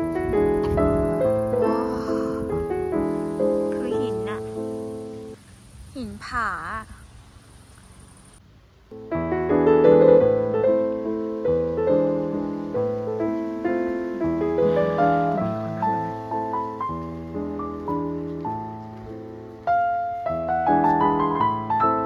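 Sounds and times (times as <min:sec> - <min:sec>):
piano music: 0:00.0 - 0:05.4, 0:08.9 - 0:22.0.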